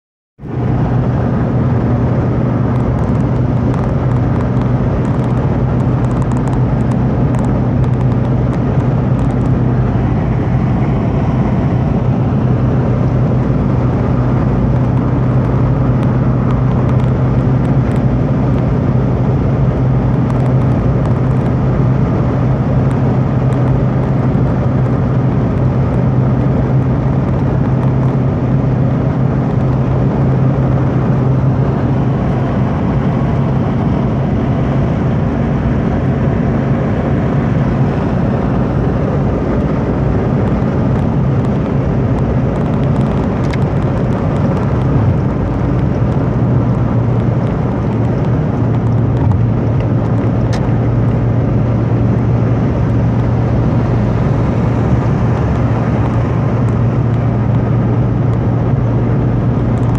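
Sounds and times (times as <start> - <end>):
car interior drone: 0.4 - 59.9
road noise: 0.4 - 59.9
wind noise: 0.4 - 59.9.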